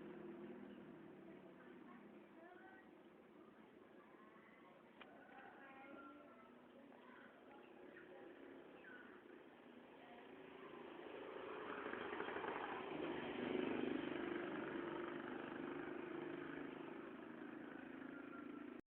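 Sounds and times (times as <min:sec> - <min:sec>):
motor vehicle engine: 0:00.0 - 0:04.0, 0:04.8 - 0:18.8.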